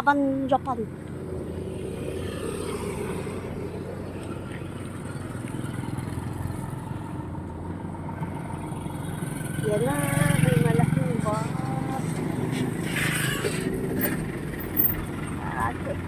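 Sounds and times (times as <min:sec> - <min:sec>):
vehicle engines running: 0:00.0 - 0:16.0.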